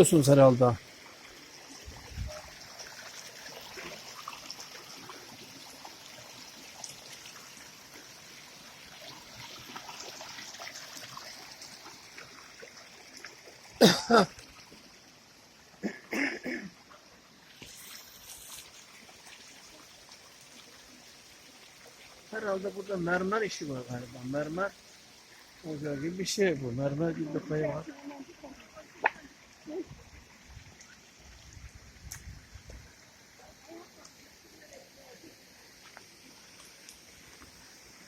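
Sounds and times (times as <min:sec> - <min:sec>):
waterfall and stream rushing: 0:00.0 - 0:38.0.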